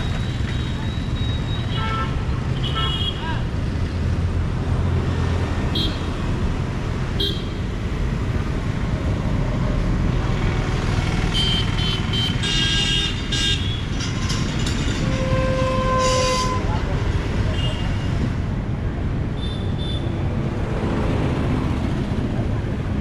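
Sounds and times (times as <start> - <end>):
road traffic: 0.0 - 23.0.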